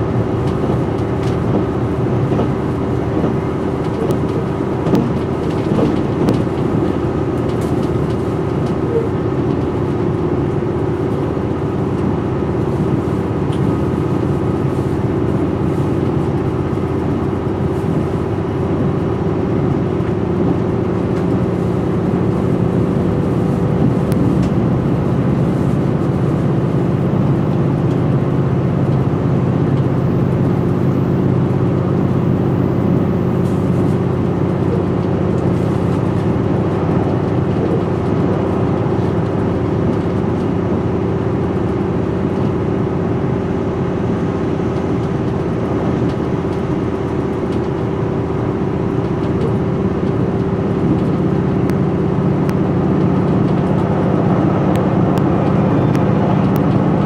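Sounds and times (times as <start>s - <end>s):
diesel engine drone: 0.0s - 57.0s
wheels rumbling on rail: 0.0s - 57.0s.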